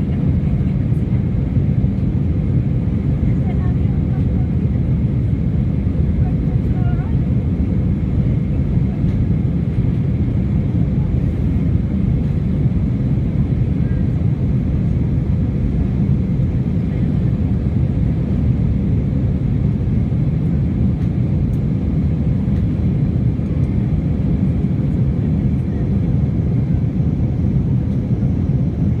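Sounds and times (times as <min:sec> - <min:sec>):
jet engine roar inside cabin: 0:00.0 - 0:29.0.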